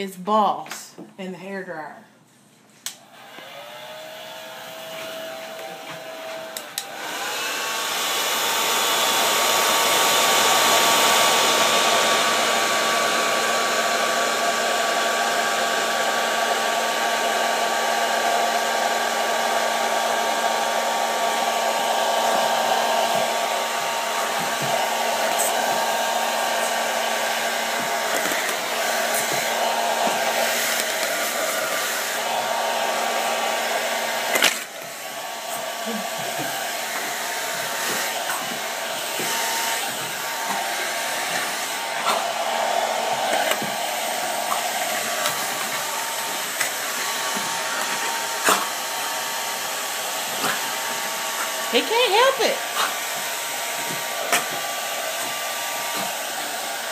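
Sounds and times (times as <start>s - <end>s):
hair dryer running: 2.9s - 56.9s.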